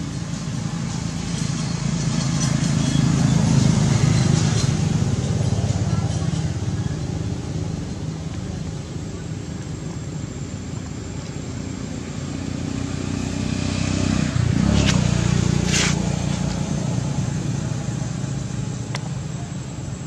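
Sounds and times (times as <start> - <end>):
passing vehicle engine hum: 0.0 - 20.0.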